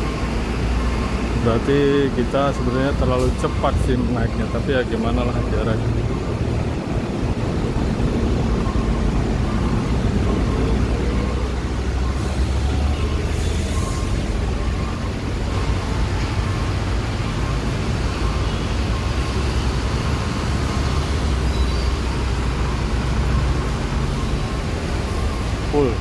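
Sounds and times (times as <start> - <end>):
heavy road traffic rumble: 0.0 - 26.0.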